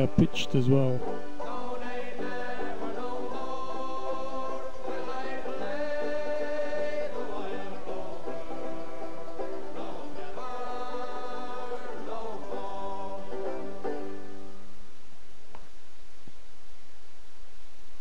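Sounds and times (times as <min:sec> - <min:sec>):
background music with held notes: 0:00.0 - 0:14.8.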